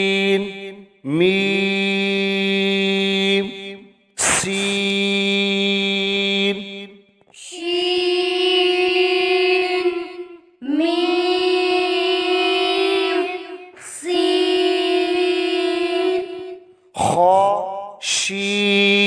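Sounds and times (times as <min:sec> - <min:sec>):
high voice chanting syllables: 0:00.0 - 0:19.0.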